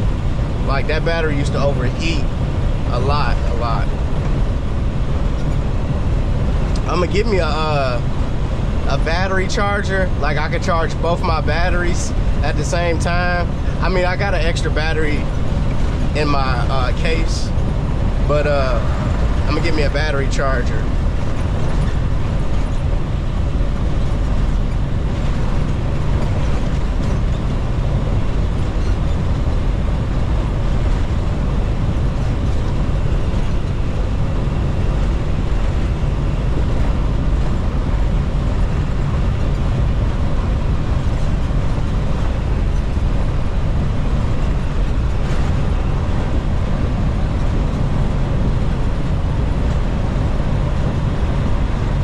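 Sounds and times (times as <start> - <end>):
truck engine and road noise: 0.0 - 52.0.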